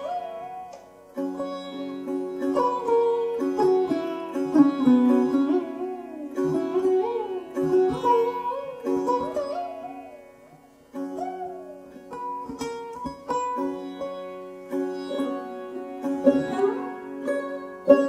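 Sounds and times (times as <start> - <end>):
sitar playing: 0.0 - 18.0.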